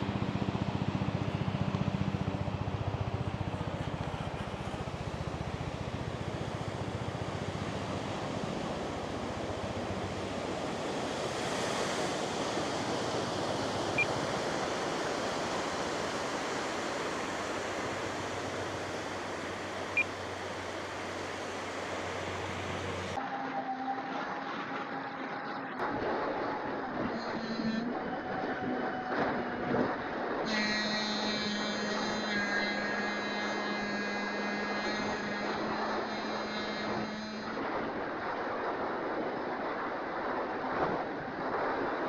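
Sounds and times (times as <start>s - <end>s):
wind: 0.0s - 42.0s.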